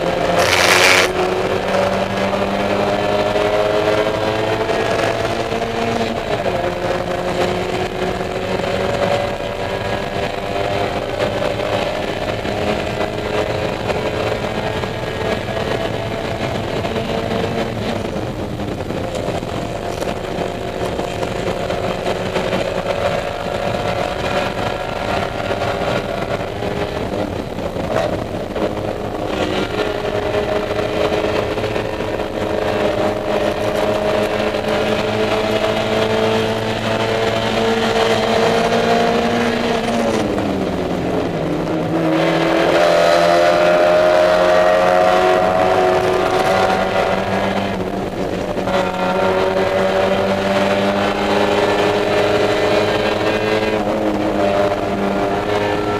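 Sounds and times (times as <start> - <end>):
car engine revving hard: 0.0 - 55.9.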